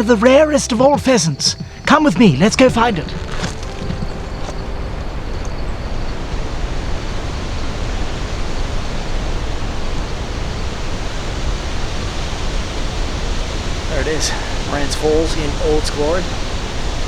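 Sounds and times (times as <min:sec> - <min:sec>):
waterfall roar: 0:02.4 - 0:17.0.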